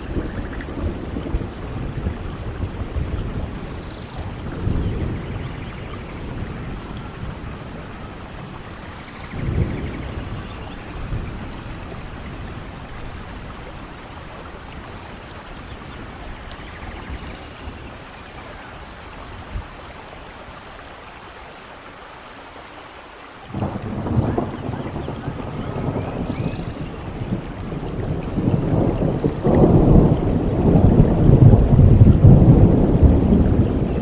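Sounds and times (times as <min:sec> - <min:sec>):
low thunder rumbles: 0:00.0 - 0:20.7, 0:23.5 - 0:34.0
steady rain falling: 0:00.0 - 0:34.0.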